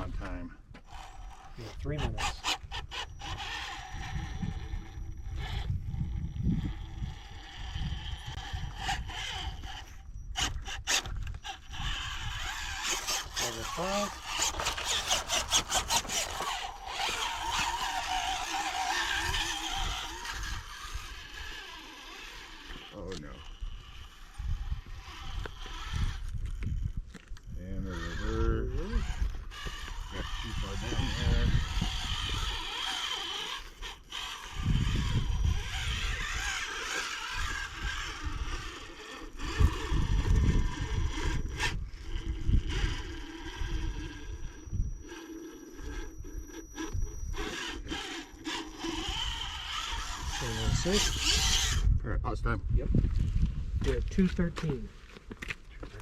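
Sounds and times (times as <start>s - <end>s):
wind buffeting microphone: 0.0s - 45.2s, 45.8s - 55.0s
tyres grinding over rock: 0.0s - 51.8s.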